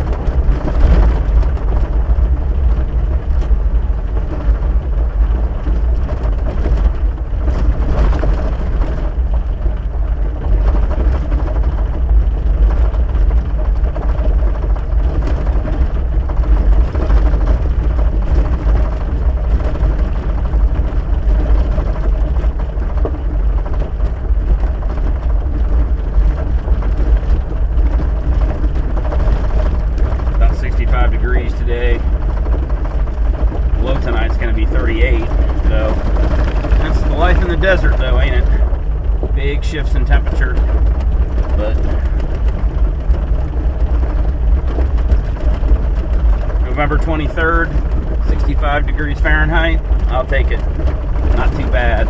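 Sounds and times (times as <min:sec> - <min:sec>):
engine drone: 0:00.0 - 0:52.0
tyres on gravel road: 0:00.0 - 0:52.0.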